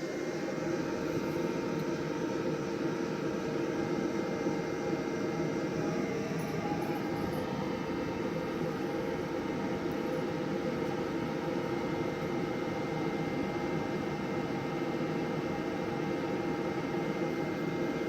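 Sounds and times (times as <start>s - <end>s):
grill fan whirring hum: 0.0s - 18.0s.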